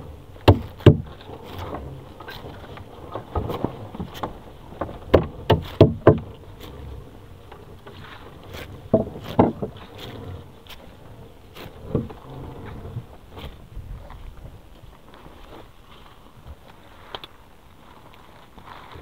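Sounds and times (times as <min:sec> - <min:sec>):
fishing net rustling: 0:00.5 - 0:19.0.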